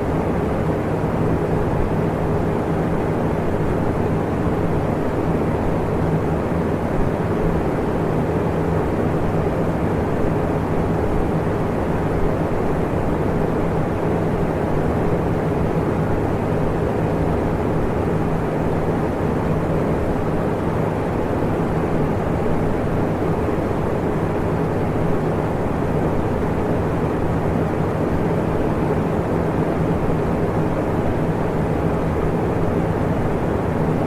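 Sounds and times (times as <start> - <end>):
electric fan rushing air: 0.0 - 34.0
faint motor hum: 0.0 - 34.0.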